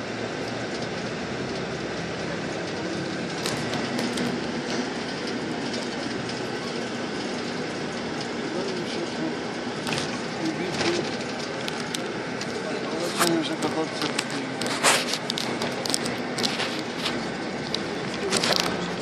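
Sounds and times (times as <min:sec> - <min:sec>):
vehicle engine and road noise: 0:00.0 - 0:19.0
sharp clicks and rattles: 0:00.4 - 0:19.0.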